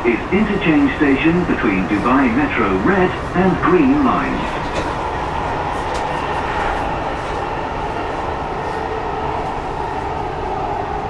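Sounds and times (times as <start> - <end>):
metro train running rumble: 0.0 - 11.0.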